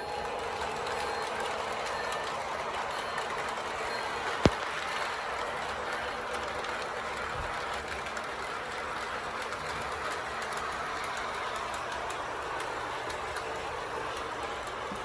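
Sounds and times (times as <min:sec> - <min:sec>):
toy train rattling on track: 0:00.0 - 0:15.0.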